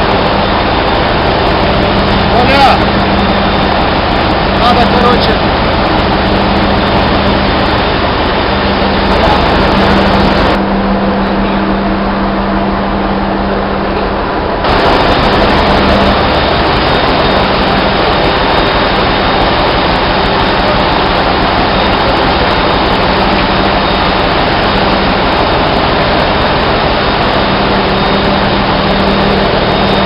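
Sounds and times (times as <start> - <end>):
machinery din: 0.0 - 30.0.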